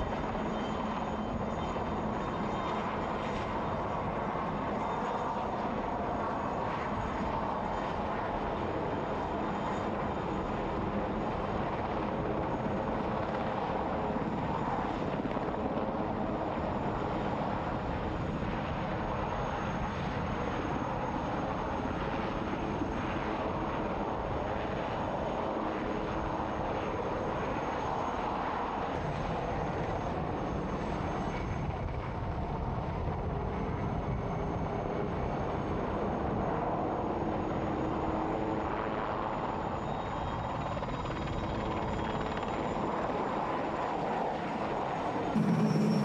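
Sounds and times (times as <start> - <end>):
faint high whine: 0.0 - 31.5, 34.0 - 46.0
helicopter rotor and engines: 0.0 - 46.0.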